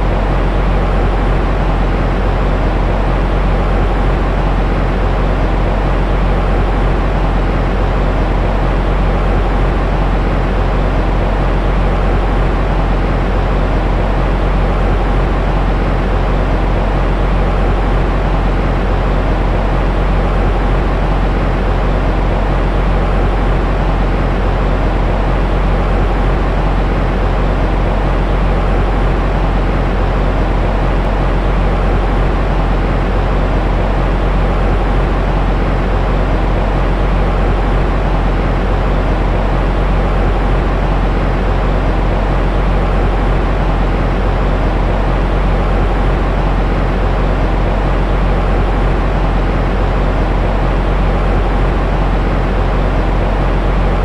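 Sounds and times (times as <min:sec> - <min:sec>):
deep white noise hiss: 0:00.0 - 0:54.0.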